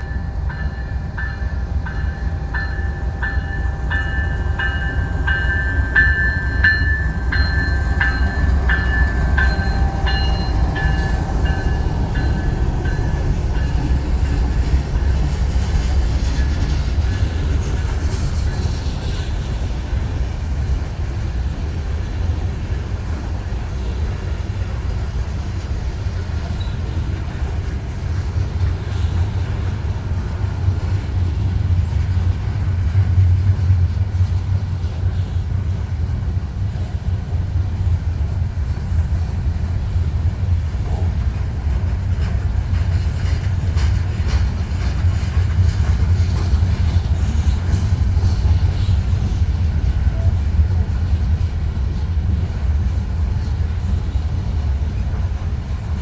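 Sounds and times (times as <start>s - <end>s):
freight train rumbling past: 0.0s - 56.0s
train wheels clicking on rails: 0.0s - 56.0s.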